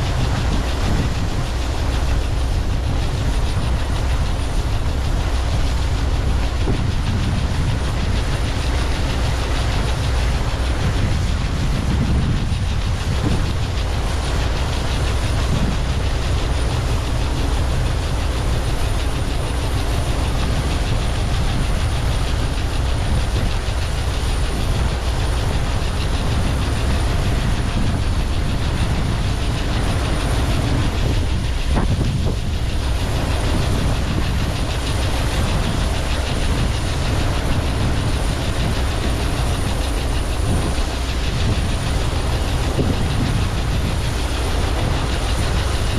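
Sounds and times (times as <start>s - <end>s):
heavy diesel machinery rumble: 0.0s - 45.9s.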